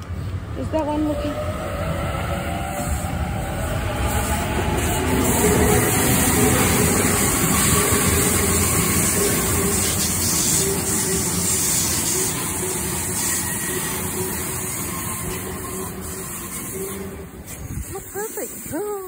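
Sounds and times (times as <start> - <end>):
train passing with rumble: 0.0 - 19.0.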